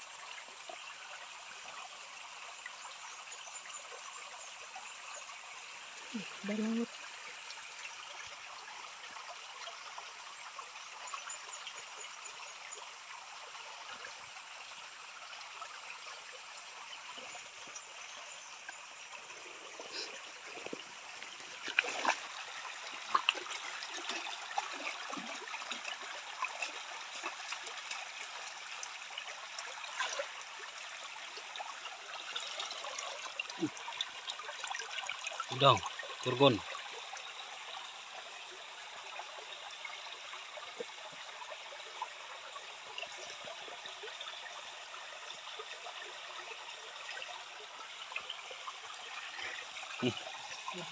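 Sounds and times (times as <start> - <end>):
small stream trickling: 0.0 - 50.9.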